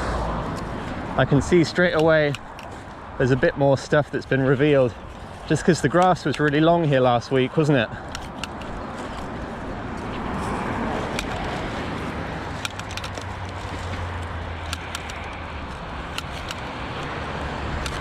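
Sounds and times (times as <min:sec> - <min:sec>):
road traffic passing: 0:00.0 - 0:18.0
light clicks and rustles: 0:00.4 - 0:17.2.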